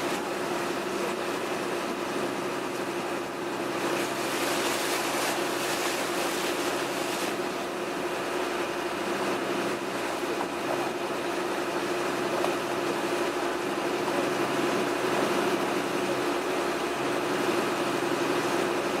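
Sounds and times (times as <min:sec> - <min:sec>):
boat engine droning: 0:00.0 - 0:19.0
water rushing: 0:00.0 - 0:19.0.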